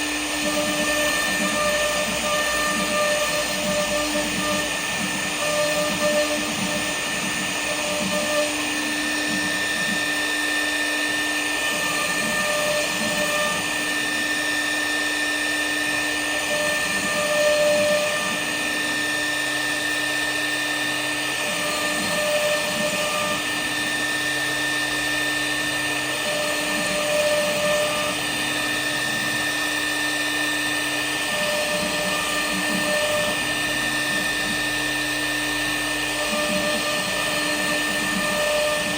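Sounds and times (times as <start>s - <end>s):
high-pitched spindle whine: 0.0s - 38.9s.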